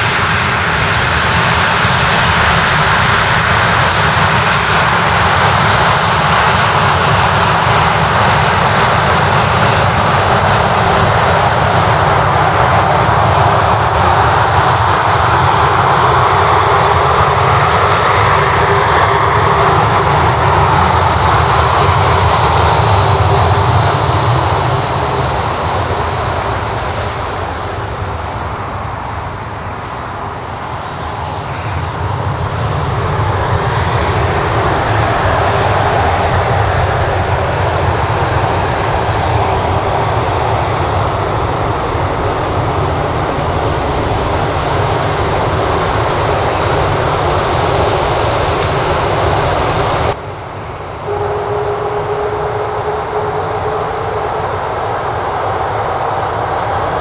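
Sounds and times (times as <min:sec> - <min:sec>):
aircraft engines running: 0:00.0 - 0:57.0
steady whine: 0:00.0 - 0:57.0.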